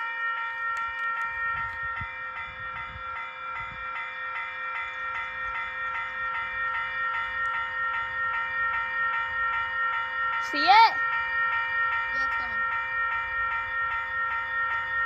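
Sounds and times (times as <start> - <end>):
railroad crossing bell dinging: 0.0 - 15.0.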